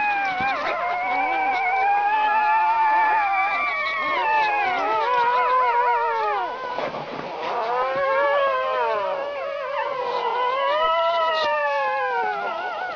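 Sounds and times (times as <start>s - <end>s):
puppies howling: 0.0s - 12.9s.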